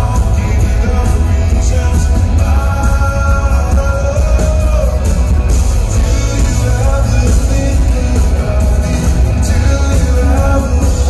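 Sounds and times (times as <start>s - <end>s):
acoustic guitar: 0.0s - 11.0s
boomy bass: 0.0s - 11.0s
electric guitar: 0.0s - 11.0s
keyboards: 0.0s - 11.0s
man singing: 0.0s - 11.0s.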